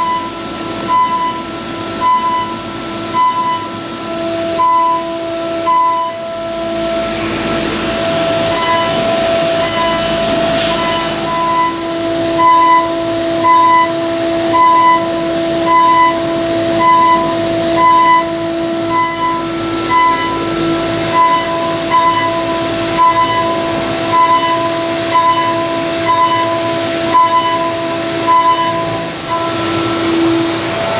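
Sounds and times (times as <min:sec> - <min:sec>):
milling machine spindle tone: 0:00.0 - 0:30.9
high cutting tone: 0:04.6 - 0:30.9.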